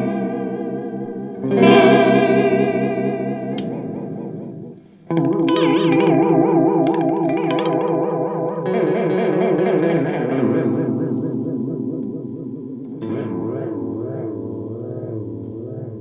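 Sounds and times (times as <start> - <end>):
warbling electric guitar chords: 0.0 - 16.0.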